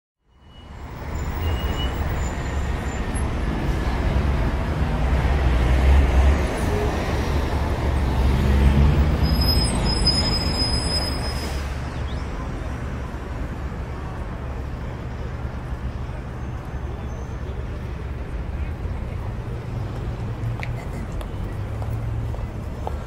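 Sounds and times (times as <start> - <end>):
traffic rumble: 0.6 - 23.0.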